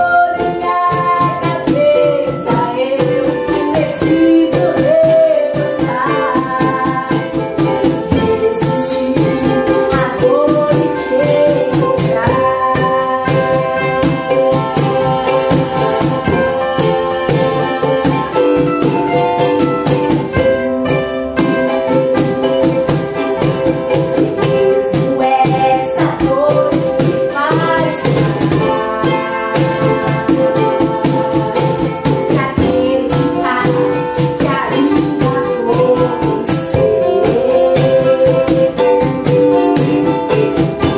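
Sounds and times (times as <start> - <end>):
acoustic guitar: 0.0 - 40.9
cajon beat: 0.0 - 40.9
ukulele: 0.0 - 40.9
woman singing: 0.0 - 40.9.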